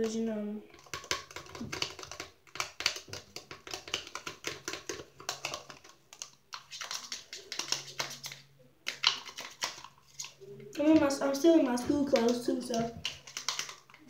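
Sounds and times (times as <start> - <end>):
slime clicking and tapping: 0.7 - 9.9, 10.8 - 14.0.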